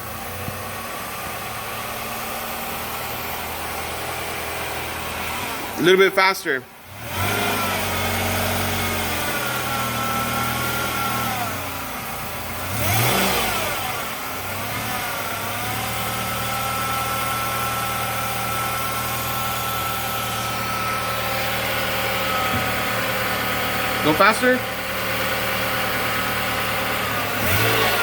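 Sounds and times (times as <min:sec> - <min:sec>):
van engine running: 0:00.0 - 0:28.0.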